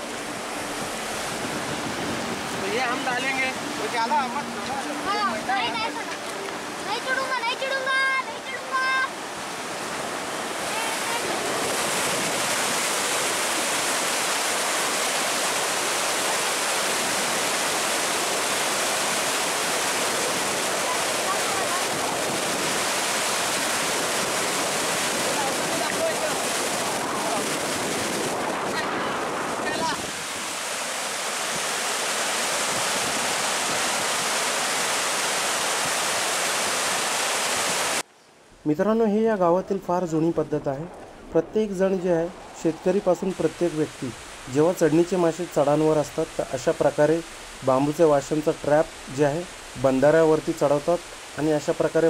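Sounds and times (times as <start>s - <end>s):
river water pouring over weir: 0.0s - 38.1s, 38.7s - 52.0s.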